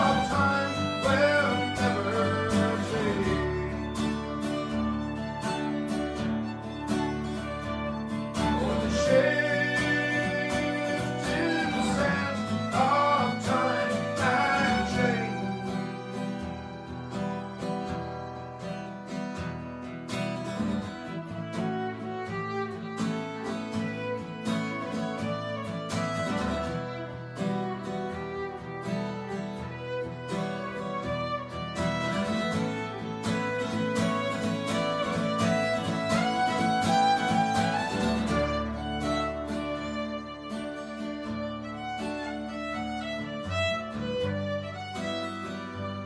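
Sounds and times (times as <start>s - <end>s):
fiddle playing melody: 0.0s - 46.0s
strummed acoustic guitar: 0.0s - 46.0s.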